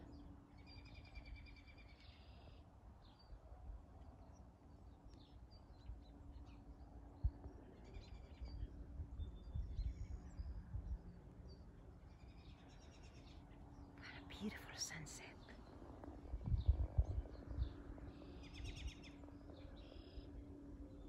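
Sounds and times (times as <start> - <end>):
low rumble on microphone: 3.2 - 21.0.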